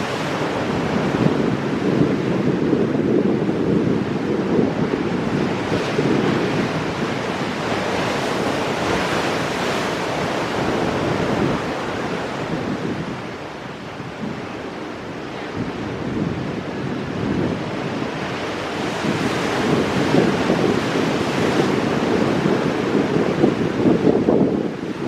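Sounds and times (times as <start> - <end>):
ocean surf breaking on rocks: 0.0 - 25.0.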